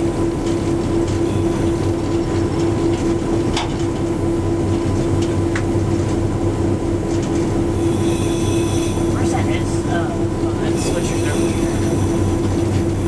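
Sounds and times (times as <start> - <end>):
diesel locomotive pulsing hum: 0.0 - 13.0.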